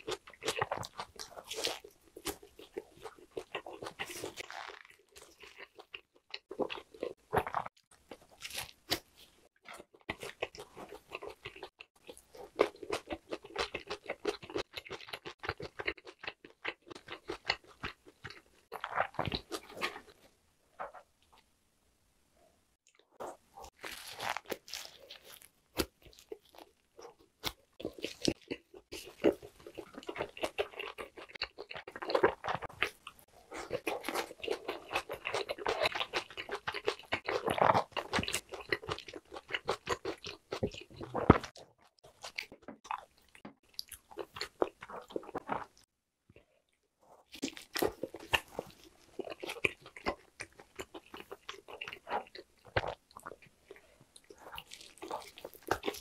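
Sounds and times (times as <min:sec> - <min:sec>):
close chewing with mouth clicks: 0:00.0 - 0:21.4, 0:22.8 - 0:56.0.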